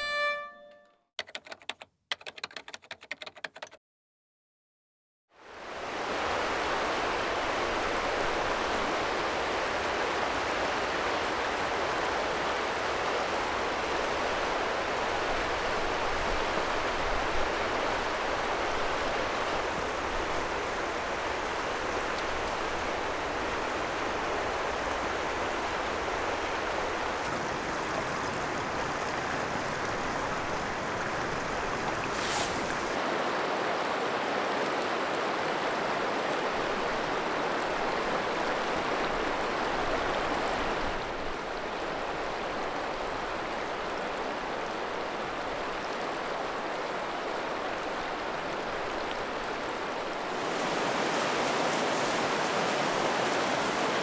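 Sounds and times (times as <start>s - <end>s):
river rushing over stones: 5.7s - 54.0s.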